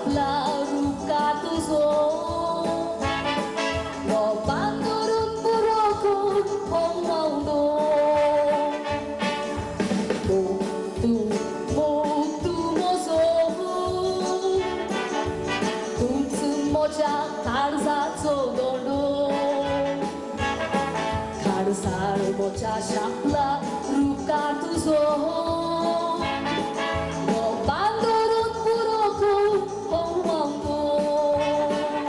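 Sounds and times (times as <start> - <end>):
woman singing into a microphone: 0.0 - 20.4, 21.0 - 32.0
instrumental accompaniment with beat: 0.0 - 32.0.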